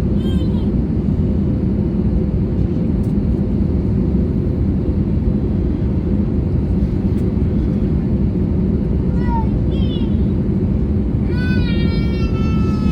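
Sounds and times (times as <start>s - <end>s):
aircraft cabin engine rumble: 0.0s - 12.9s.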